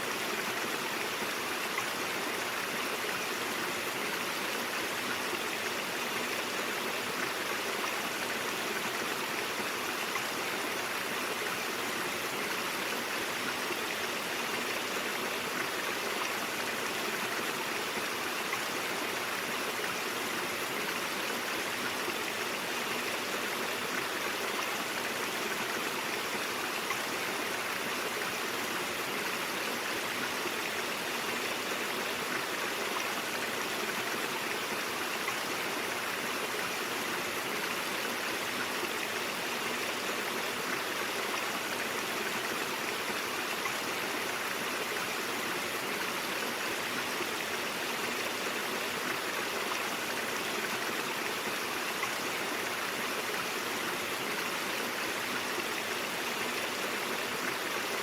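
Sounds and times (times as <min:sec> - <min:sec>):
brook water flowing over rocks: 0:00.0 - 0:58.0.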